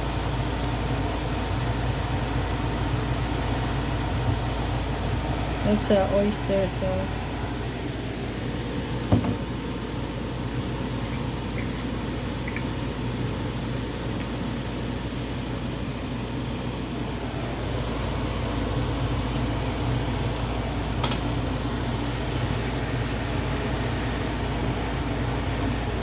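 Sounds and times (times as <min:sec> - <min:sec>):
constant hiss: 0:00.0 - 0:26.0
low mechanical hum: 0:00.0 - 0:26.0.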